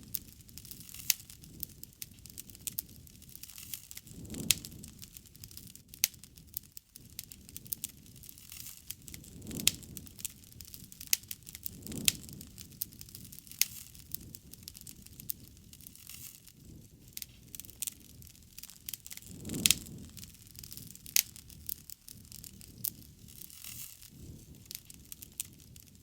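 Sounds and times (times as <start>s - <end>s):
low rush of flame: 0.0s - 26.0s
wood fire crackling and popping: 0.0s - 26.0s.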